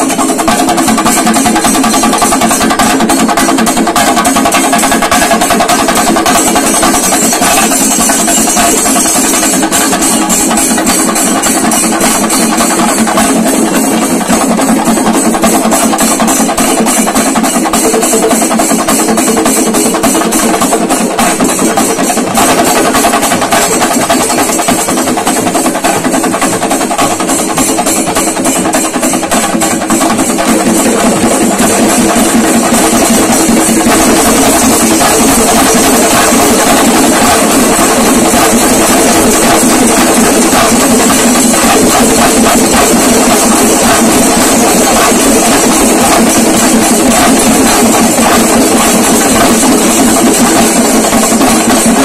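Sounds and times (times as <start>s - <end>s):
stick-beaten drums rolling: 0.0s - 52.0s.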